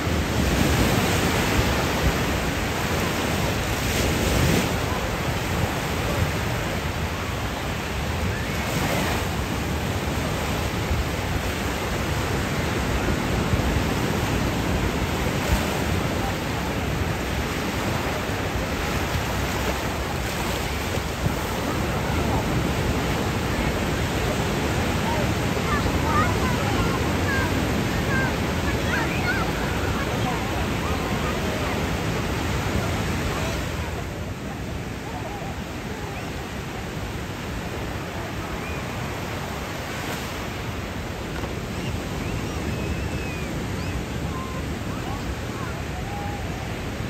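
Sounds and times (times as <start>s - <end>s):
ocean surf breaking on beach: 0.0s - 47.0s.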